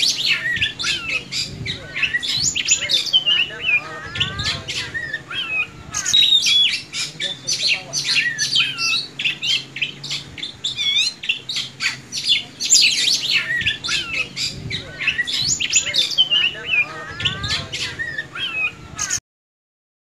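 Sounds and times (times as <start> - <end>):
bird rasping notes: 0.0 - 19.2
bird singing varied chirps: 0.0 - 19.2.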